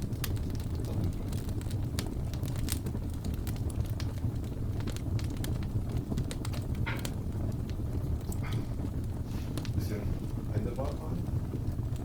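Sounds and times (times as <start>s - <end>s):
fire crackling: 0.0s - 12.0s
low rumble of fire: 0.0s - 12.0s.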